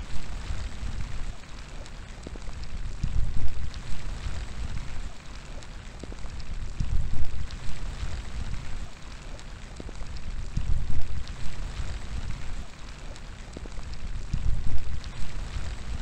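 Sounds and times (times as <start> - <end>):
rain falling: 0.0 - 16.0
raindrops ticking: 0.0 - 16.0
wind gusts rumbling: 0.0 - 16.0.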